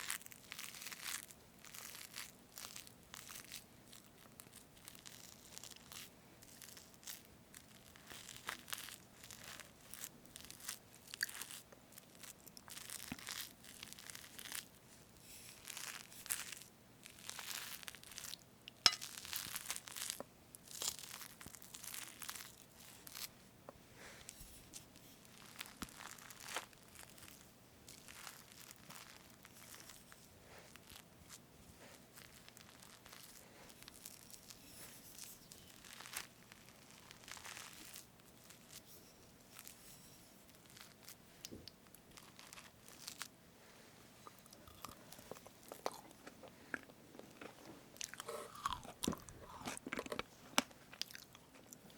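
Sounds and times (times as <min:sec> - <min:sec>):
cake being cut with soft crackles: 0:00.0 - 0:43.3.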